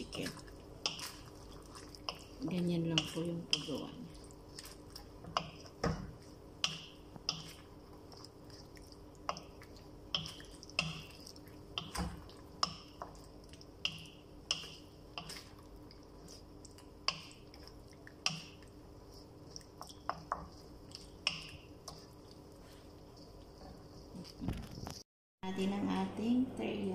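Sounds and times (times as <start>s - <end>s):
sauce simmering in a pan: 0.0s - 24.2s.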